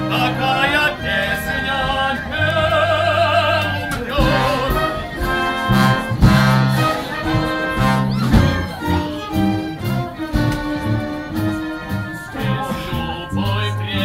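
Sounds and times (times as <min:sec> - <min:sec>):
orchestra playing: 0:00.0 - 0:14.0.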